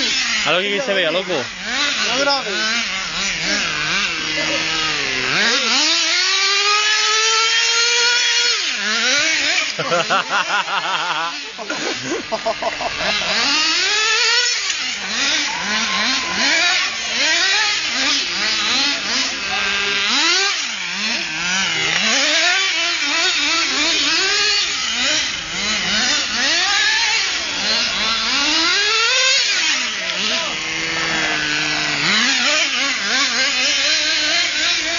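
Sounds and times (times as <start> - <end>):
small engine revving: 0.0 - 34.9.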